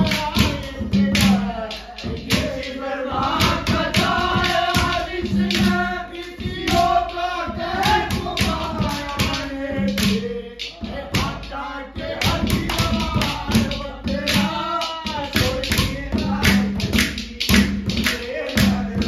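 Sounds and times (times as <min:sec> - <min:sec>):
man singing loudly: 0:00.0 - 0:19.0
sharp percussive beat: 0:00.0 - 0:19.0.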